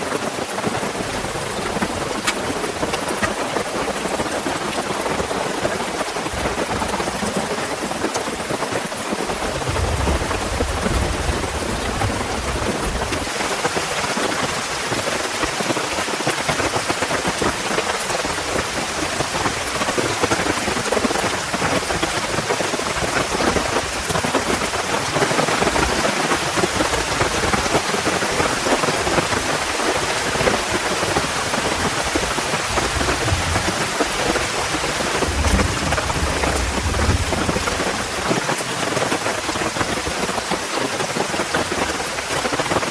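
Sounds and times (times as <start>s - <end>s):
heavy rain falling: 0.0s - 42.9s
thunder rumbling: 0.7s - 15.8s, 17.3s - 40.2s.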